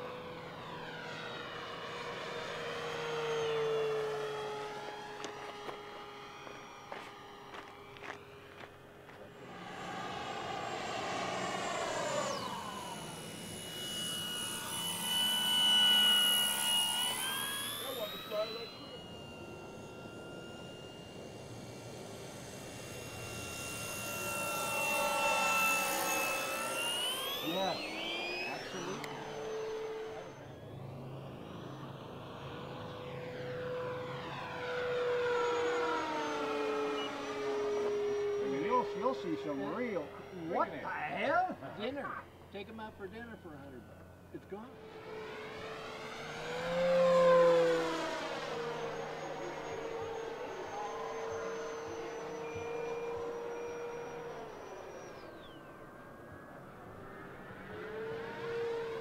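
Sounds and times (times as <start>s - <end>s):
model plane motor whining: 0.0s - 59.0s.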